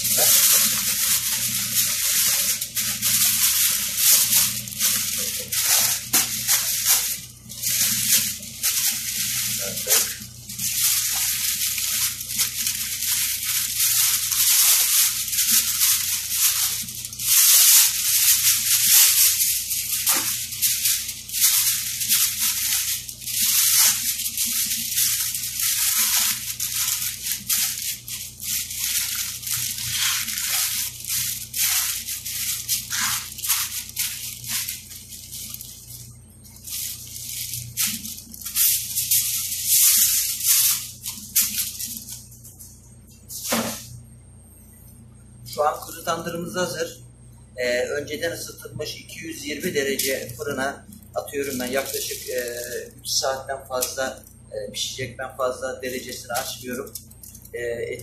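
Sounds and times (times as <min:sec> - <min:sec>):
aluminium foil crinkling: 0:00.0 - 0:43.9, 0:47.6 - 0:58.0.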